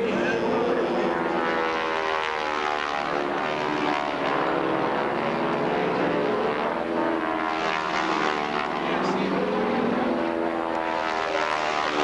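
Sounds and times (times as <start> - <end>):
propeller airplane engine overhead: 0.0 - 12.0.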